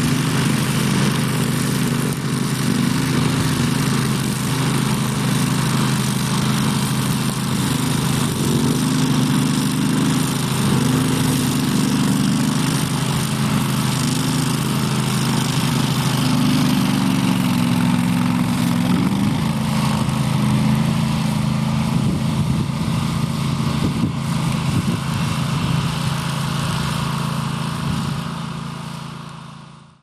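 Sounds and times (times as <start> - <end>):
ride-on mower engine drone: 0.0 - 30.0.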